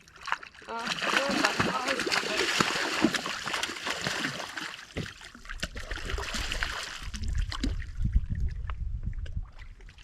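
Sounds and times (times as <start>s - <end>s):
water sloshing and trickling: 0.0s - 10.0s.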